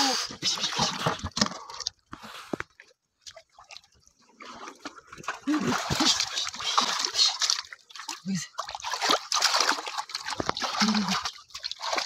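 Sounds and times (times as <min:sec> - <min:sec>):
water sloshing and splashing: 0:00.2 - 0:12.0.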